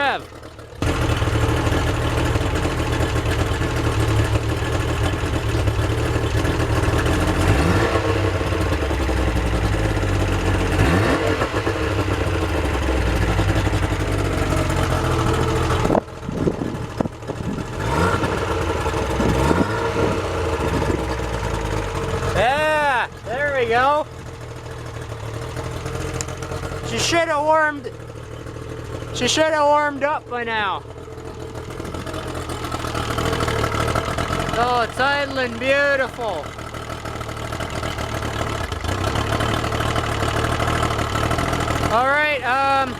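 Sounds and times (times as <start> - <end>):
outboard motor throttle blips: 0.0 - 27.8, 31.0 - 42.9
outboard motor running: 0.0 - 42.9.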